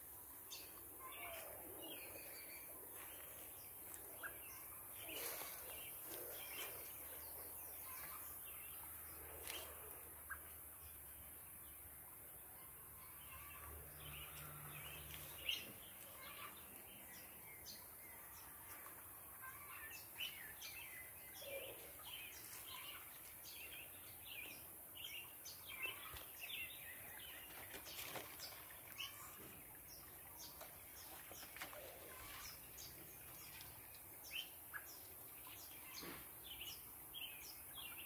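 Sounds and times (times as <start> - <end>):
faint small birds chirping: 0.0 - 38.0.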